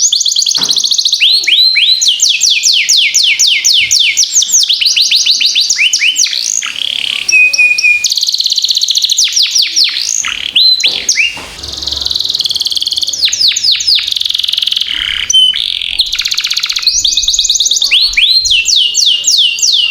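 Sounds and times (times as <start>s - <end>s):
canary singing trills: 0.0s - 19.9s.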